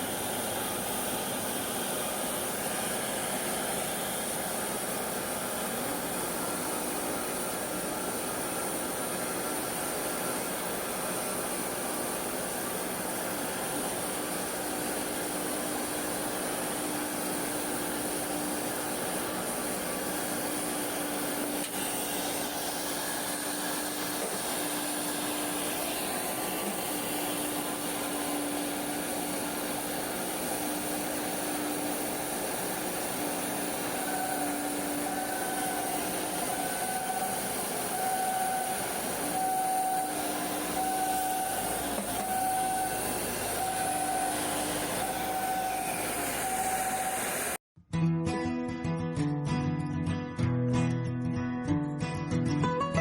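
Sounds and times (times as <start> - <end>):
machinery hiss: 0.0 - 47.6.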